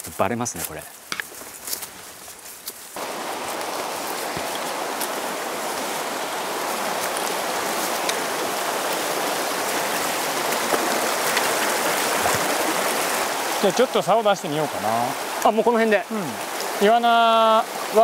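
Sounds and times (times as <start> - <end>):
stream rushing over stones: 3.0 - 18.0.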